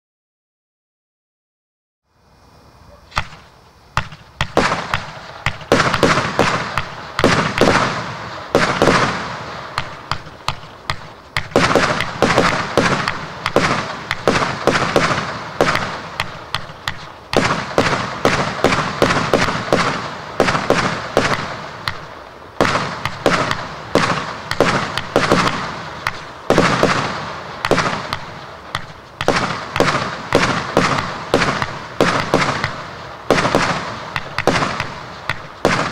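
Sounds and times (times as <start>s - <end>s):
fireworks launching and bursting: 3.1s - 35.9s.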